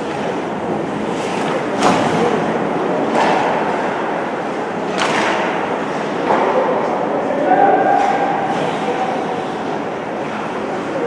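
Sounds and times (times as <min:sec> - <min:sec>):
sports hall din: 0:00.0 - 0:11.0.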